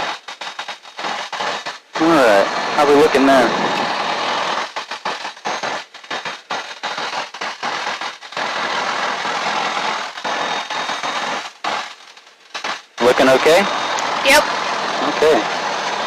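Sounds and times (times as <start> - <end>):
crackling hissing headset static: 0.0 - 16.0.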